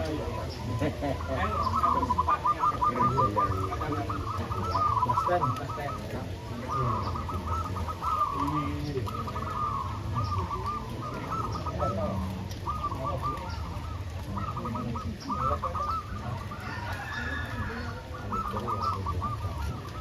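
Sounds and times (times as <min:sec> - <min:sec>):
doves cooing: 0:00.0 - 0:20.0.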